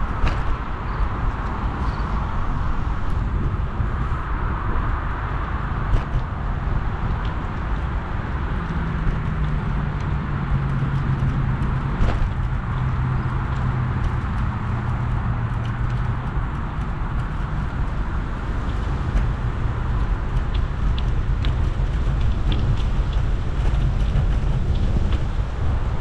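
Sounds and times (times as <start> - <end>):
tyre and road rumble: 0.0 - 26.0
wind rushing over microphone: 0.0 - 26.0.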